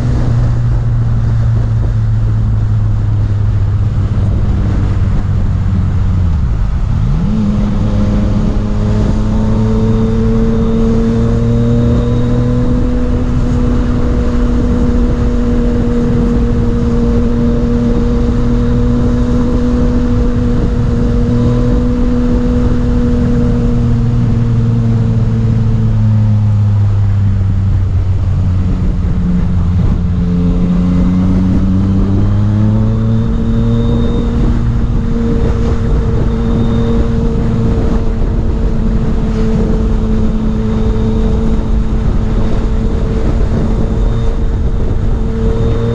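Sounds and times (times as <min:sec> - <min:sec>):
motorcycle engine revving: 0:00.0 - 0:45.9
wind rushing over microphone: 0:00.0 - 0:45.9.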